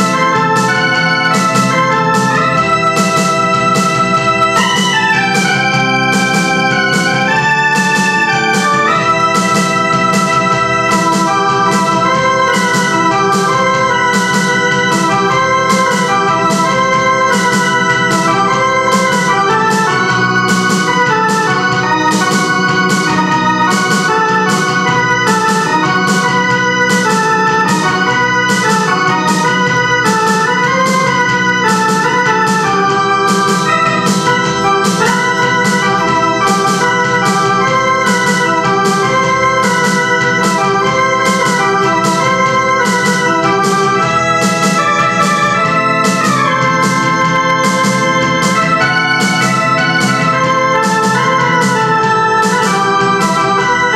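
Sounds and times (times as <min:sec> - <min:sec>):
electronic keyboard music: 0:00.0 - 0:53.9.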